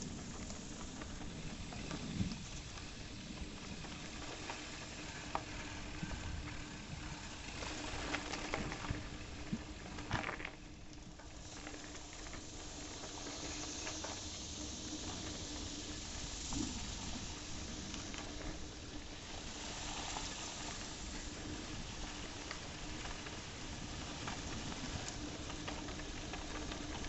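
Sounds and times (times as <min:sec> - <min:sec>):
rustling movement on trail: 0:00.0 - 0:27.0
steady hiss: 0:00.0 - 0:27.0.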